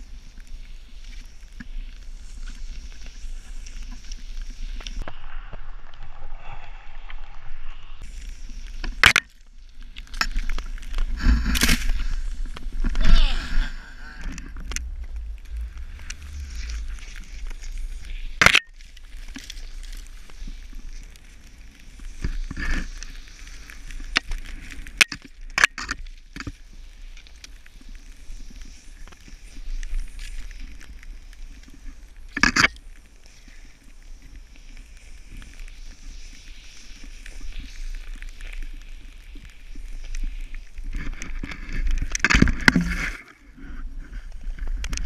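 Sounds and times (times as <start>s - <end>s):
snowboard hissing through powder: 0.0s - 10.0s, 10.6s - 24.9s, 26.6s - 32.1s, 33.0s - 40.9s
wind rumbling on microphone: 0.0s - 45.0s.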